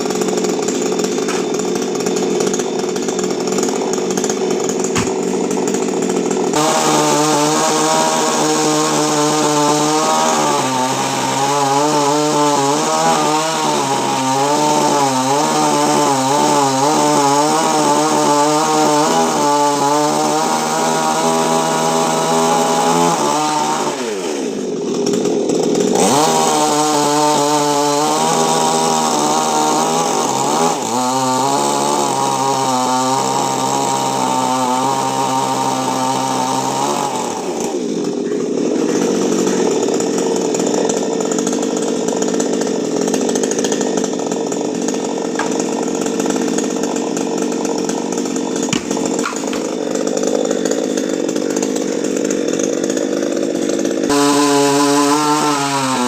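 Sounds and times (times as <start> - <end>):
chainsaw cutting: 0.0 - 56.0.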